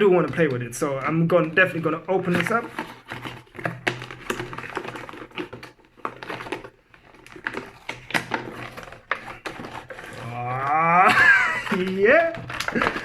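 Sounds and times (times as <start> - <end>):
packaging clicks and crinkles: 0.0 - 13.0.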